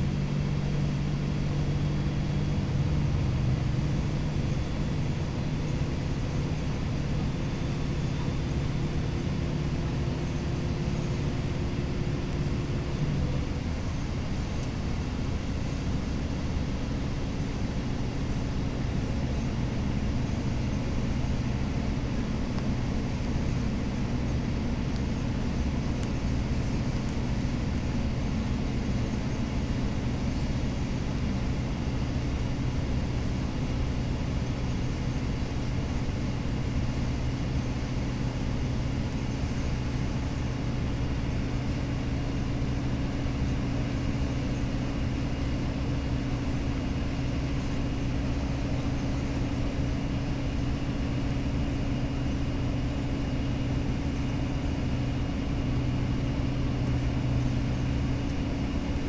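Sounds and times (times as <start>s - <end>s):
bus diesel engine drone: 0.0s - 59.0s
road noise: 0.0s - 59.0s.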